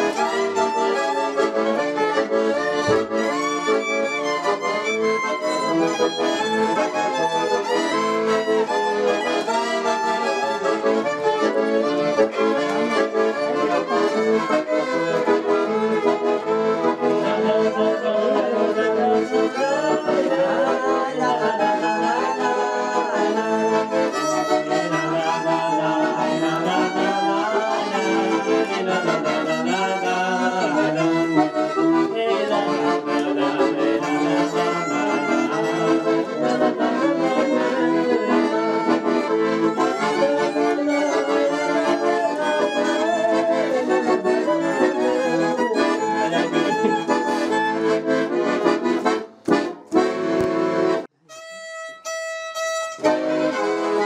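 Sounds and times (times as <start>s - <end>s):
piano accordion: 0.0s - 54.0s
violin: 0.0s - 54.0s.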